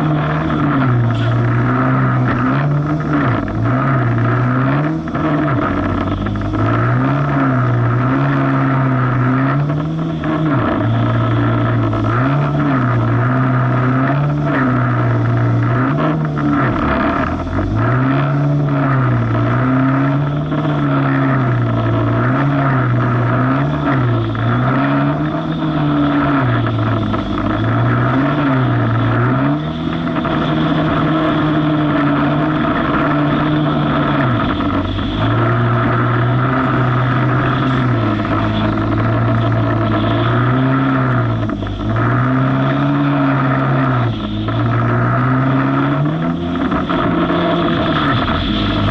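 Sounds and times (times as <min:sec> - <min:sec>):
jet ski engine revving: 0:00.0 - 0:48.9.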